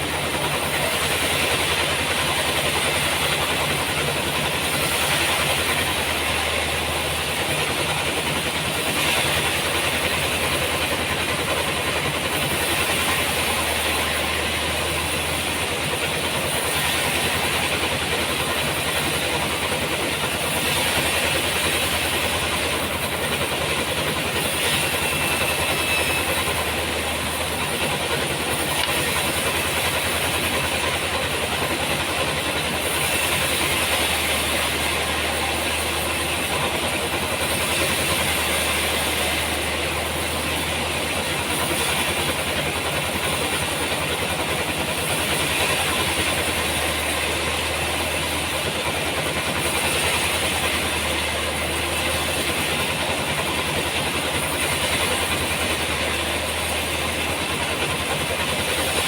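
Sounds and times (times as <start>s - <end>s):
noisy sawmill wash: 0.0s - 59.0s
sawmill machine hum: 0.0s - 59.0s.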